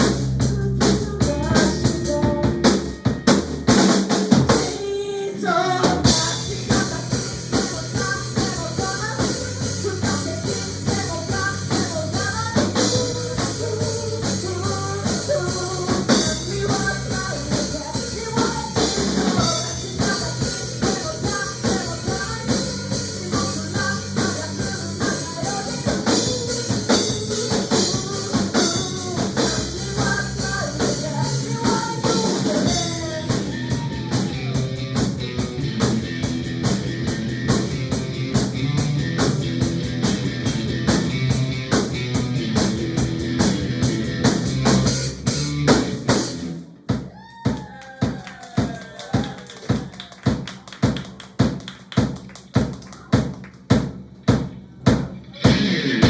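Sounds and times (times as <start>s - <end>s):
held bass notes: 0.0s - 4.7s, 5.8s - 46.6s, 55.3s - 56.0s
drum kit fast beat: 0.0s - 56.0s.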